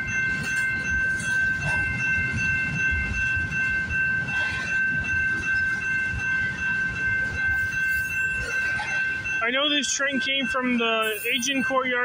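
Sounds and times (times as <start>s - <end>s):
freight train rolling past: 0.0s - 12.0s
high-pitched ringing tone: 0.0s - 12.0s.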